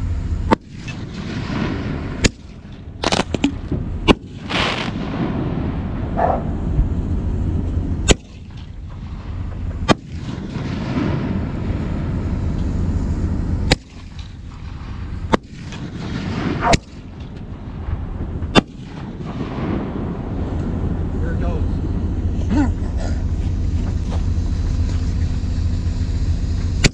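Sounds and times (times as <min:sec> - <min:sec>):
low rumble: 0:00.0 - 0:26.9
firework shells bursting: 0:00.5 - 0:22.4.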